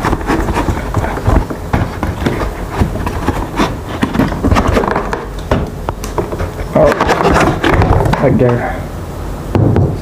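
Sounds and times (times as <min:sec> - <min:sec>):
boxes knocking and rustling: 0:00.0 - 0:08.6.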